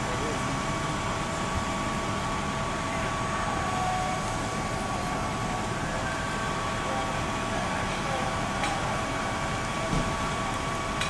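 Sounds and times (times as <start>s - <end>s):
truck engines humming: 0.0s - 11.0s.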